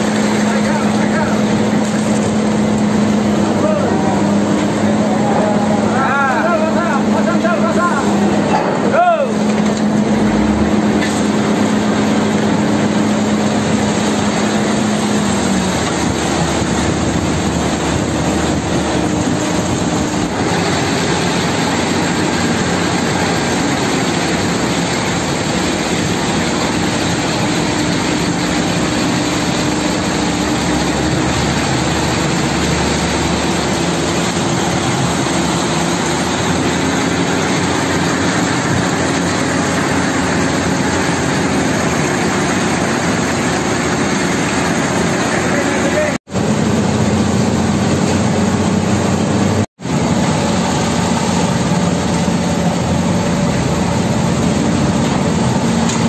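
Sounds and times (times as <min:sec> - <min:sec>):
concrete pouring down chute: 0:00.0 - 0:56.0
diesel engine running under load: 0:00.0 - 0:56.0.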